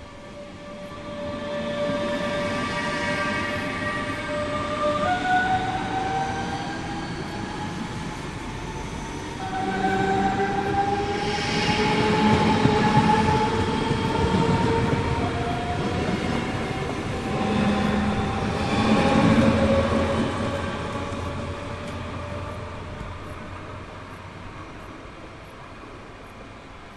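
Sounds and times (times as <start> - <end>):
train wheels rumbling on track: 0.0 - 26.9.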